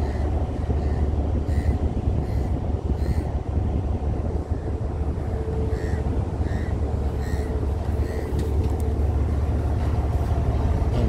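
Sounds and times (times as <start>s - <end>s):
ship machinery rumbling: 0.0s - 11.0s.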